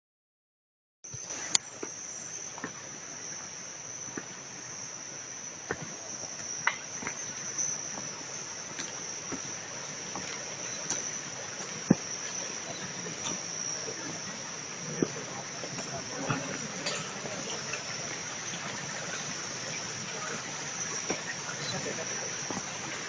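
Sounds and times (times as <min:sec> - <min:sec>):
insects droning: 0:01.1 - 0:23.0.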